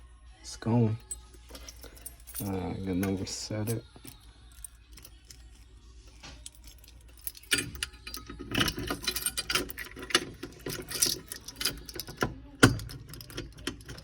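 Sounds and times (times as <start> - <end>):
metal clicks and rattles: 1.2 - 14.0.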